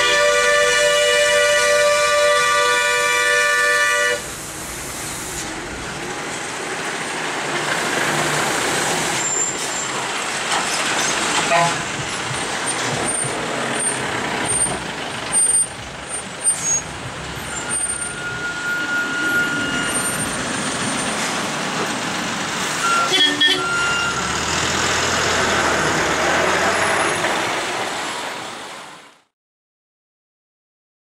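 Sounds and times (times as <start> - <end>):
truck diesel engines running: 0.0 - 29.0
road noise: 0.0 - 29.3.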